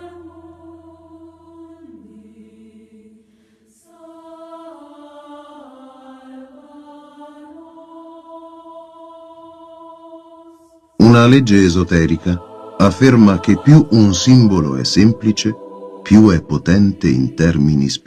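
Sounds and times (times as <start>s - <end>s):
choir chanting held notes: 0.0s - 18.0s.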